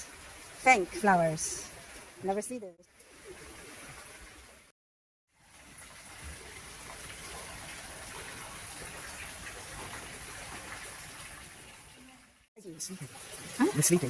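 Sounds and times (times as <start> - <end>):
running water rushing: 0.0 - 4.7, 5.4 - 14.0.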